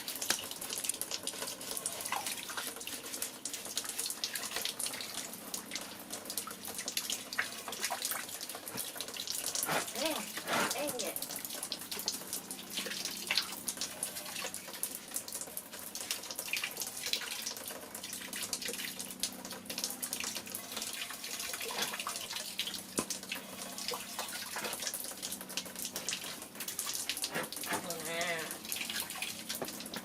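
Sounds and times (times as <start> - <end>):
tap water running and splashing: 0.0 - 30.0.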